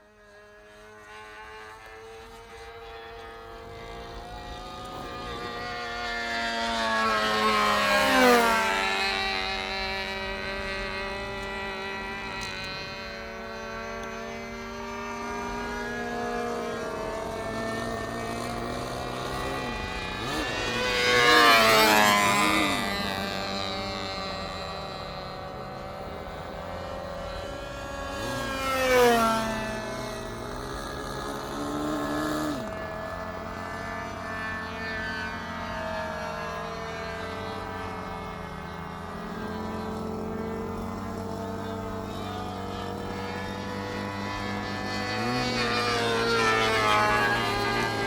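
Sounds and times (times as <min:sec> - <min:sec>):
model aircraft engine buzzing: 0:00.0 - 0:48.0.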